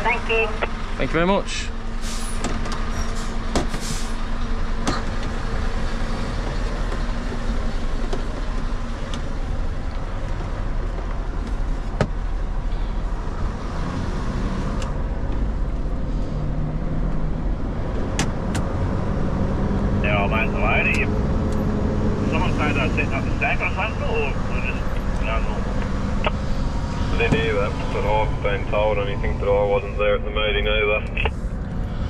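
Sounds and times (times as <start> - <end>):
diesel engine hum inside cab: 0.0 - 32.0.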